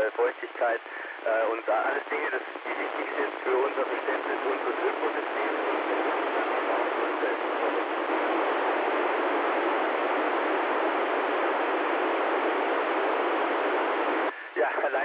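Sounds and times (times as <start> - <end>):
radio receiver static hiss: 0.0 - 15.0.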